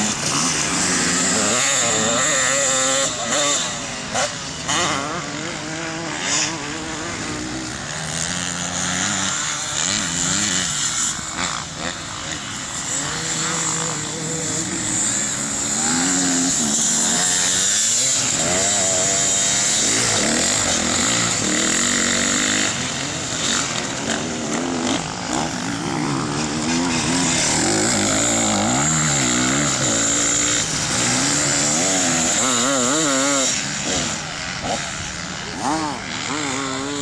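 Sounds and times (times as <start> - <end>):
motorcycle and quad engines revving: 0.0 - 37.0.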